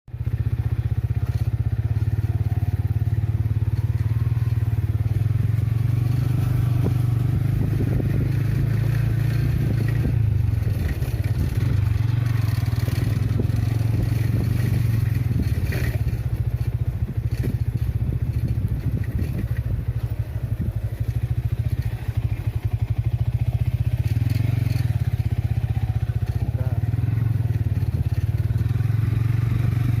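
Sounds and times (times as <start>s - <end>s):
engine droning: 0.1s - 30.0s.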